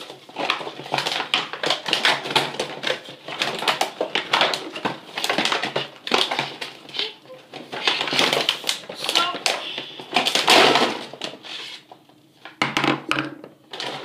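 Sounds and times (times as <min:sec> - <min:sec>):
packaging crinkling: 0:00.0 - 0:12.2.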